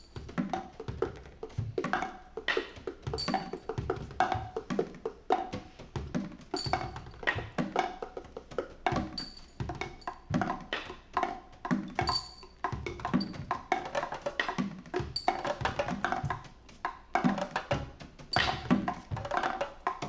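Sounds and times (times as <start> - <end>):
instrumental band music: 0.0 - 20.0.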